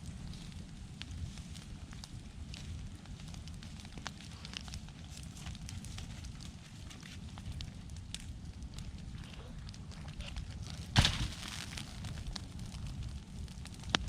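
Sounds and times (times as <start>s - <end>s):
bonfire crackling and popping: 0.0s - 14.0s
low fire rumble: 0.0s - 14.0s.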